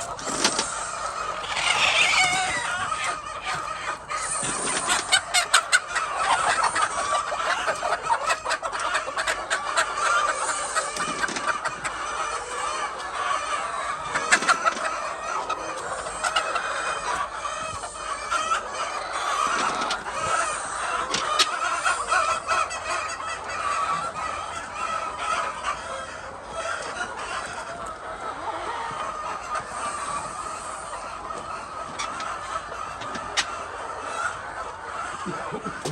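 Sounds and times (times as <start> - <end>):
hens clucking: 0.0 - 35.9.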